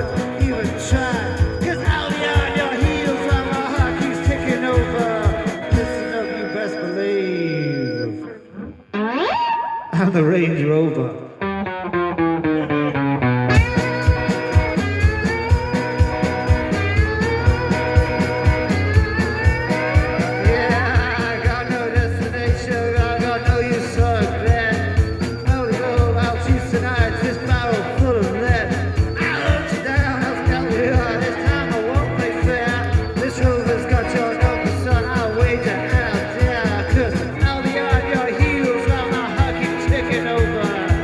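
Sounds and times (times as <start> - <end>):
steady drum beat: 0.0 - 6.2, 13.5 - 41.0
rock band playing live: 0.0 - 7.2, 11.4 - 41.0
electric guitar: 0.0 - 10.1, 11.1 - 41.0.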